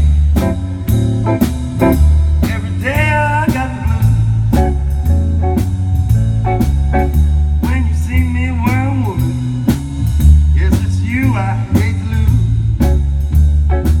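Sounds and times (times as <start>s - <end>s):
blues band playing live: 0.0s - 14.0s.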